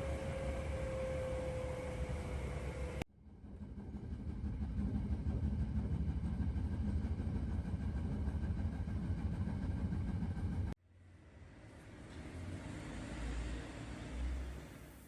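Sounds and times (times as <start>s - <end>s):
low rumble of moving vehicle: 0.0s - 15.0s.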